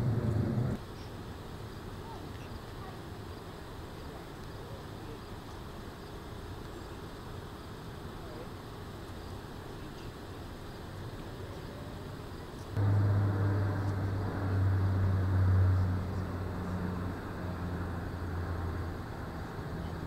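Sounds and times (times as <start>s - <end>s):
vehicle engine humming: 0.0s - 0.8s, 4.1s - 20.0s
faint street ambience: 0.0s - 20.0s.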